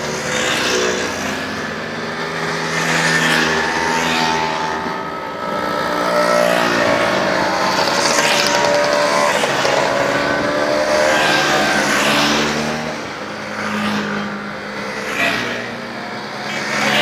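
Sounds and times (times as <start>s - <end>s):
scooters buzzing past: 0.0s - 17.0s.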